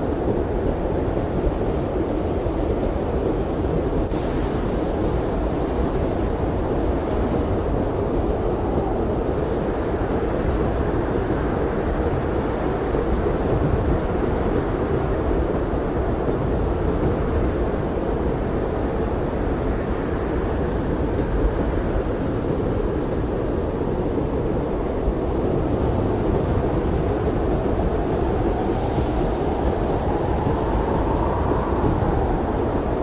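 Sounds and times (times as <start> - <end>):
blizzard wind rushing: 0.0 - 33.0
faint wind whistling: 0.0 - 33.0.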